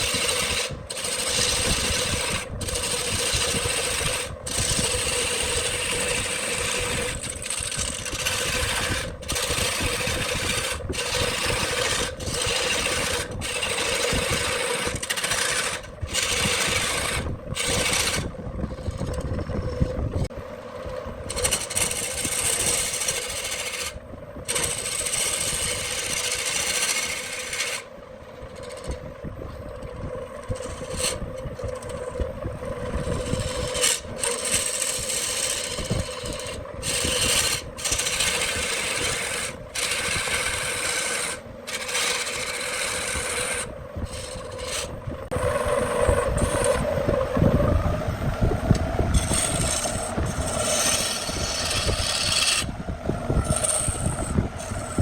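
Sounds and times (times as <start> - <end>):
tool scraping spinning wood: 0.0 - 55.0
wood lathe humming: 0.0 - 55.0.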